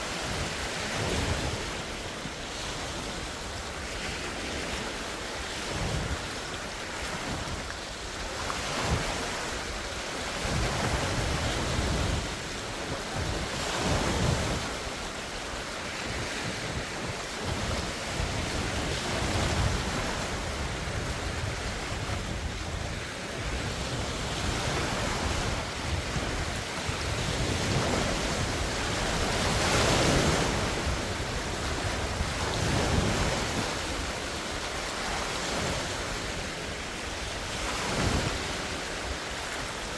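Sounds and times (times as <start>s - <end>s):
waves breaking ashore: 0.0s - 39.9s
wind buffeting microphone: 0.0s - 39.9s.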